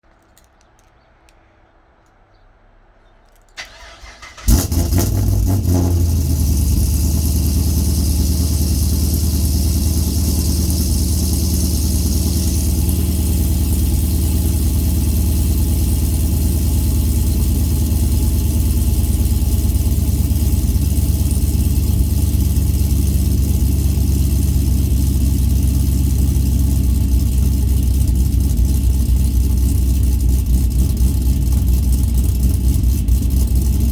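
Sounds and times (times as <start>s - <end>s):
car engine idling: 3.6s - 33.9s
starter motor cranking: 3.6s - 33.9s.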